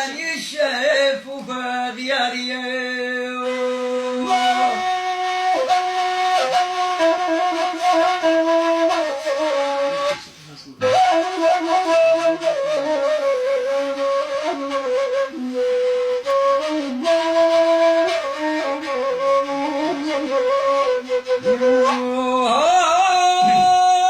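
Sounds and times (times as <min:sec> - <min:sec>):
flute melody: 0:02.7 - 0:24.0.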